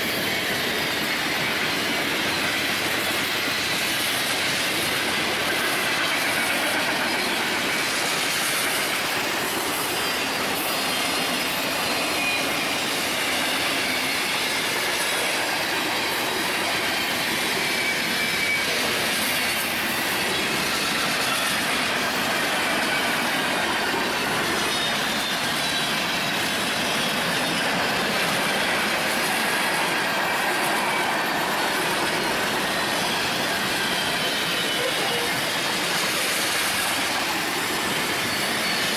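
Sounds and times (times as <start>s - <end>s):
high wheel squeals: 0.0s - 38.9s
railroad cars rumbling and clattering: 0.0s - 38.9s.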